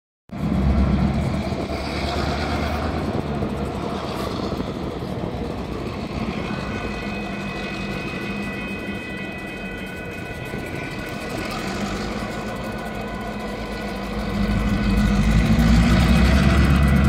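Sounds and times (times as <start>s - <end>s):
railroad crossing bell ringing: 0.3s - 17.0s
road traffic rumbling: 0.3s - 17.0s.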